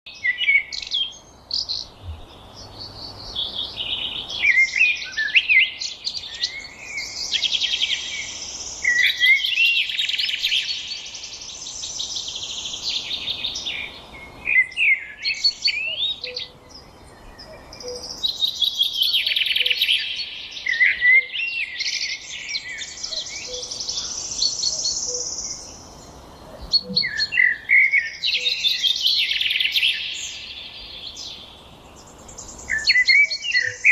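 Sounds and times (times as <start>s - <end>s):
songbird trilling and whistling: 0.1s - 33.9s.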